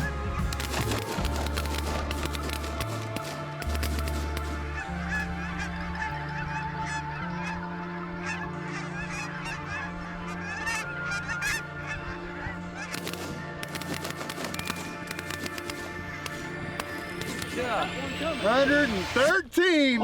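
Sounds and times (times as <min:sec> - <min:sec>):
geese honking: 0:00.0 - 0:19.3.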